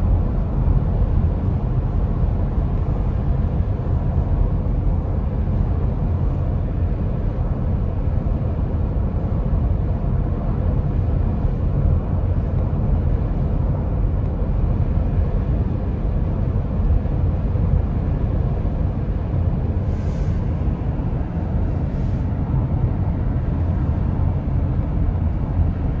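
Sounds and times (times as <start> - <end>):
faint steady hum: 0.0 - 26.0
tyre and wind road noise: 0.0 - 26.0.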